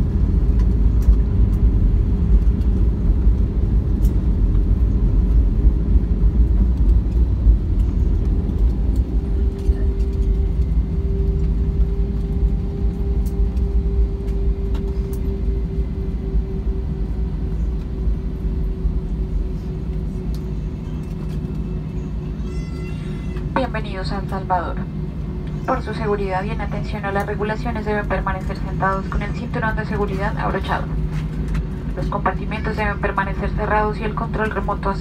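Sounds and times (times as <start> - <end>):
steady hum: 0.0 - 22.4, 23.4 - 35.0
aircraft cabin rumble: 0.0 - 35.0.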